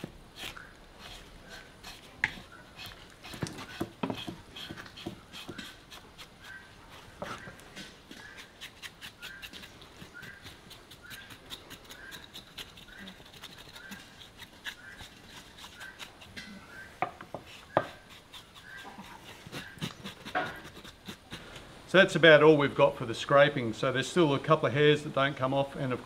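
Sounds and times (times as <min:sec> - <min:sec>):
knife scraping pig skin: 0:00.0 - 0:21.6.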